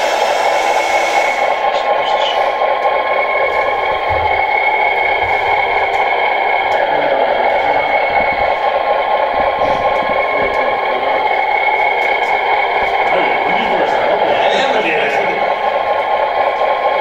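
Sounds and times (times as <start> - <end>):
simulated diesel engine idling: 0.0 - 17.0.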